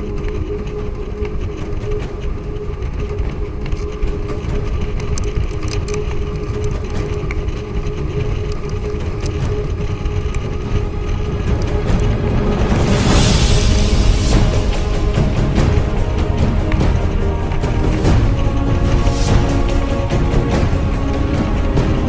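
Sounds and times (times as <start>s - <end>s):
clicks and rattles: 0.0s - 22.0s
vehicle rumble with droning tone: 0.0s - 22.0s.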